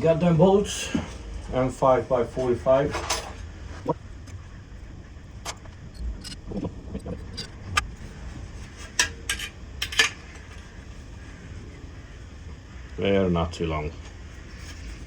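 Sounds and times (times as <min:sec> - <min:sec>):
low shop rumble: 0:00.0 - 0:15.0.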